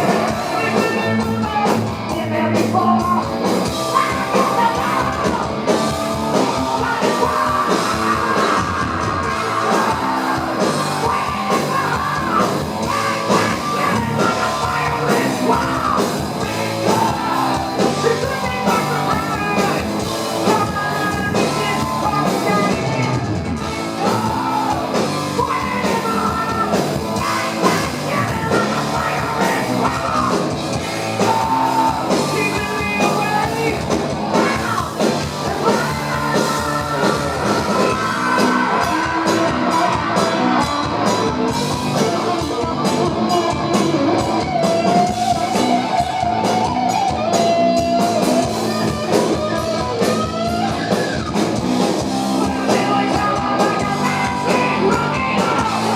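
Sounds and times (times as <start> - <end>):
distorted guitars: 0.0 - 55.9
drums: 0.0 - 55.9
high yelling rock vocal: 0.0 - 55.9.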